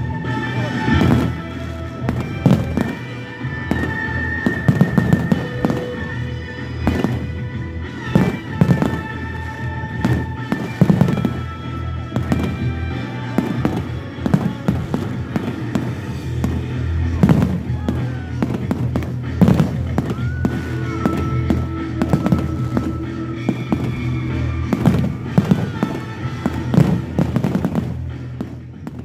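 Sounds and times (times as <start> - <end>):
fireworks bursting with sharp bangs: 0.0 - 29.0
music playing: 0.0 - 29.0.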